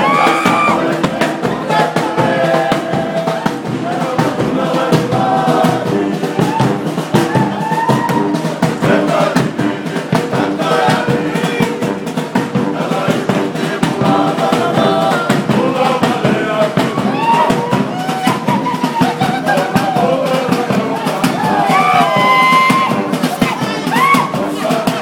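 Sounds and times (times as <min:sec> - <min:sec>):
crowd chatter: 0:00.0 - 0:25.0
fast steady drumming: 0:00.0 - 0:25.0
group of voices singing: 0:00.0 - 0:25.0.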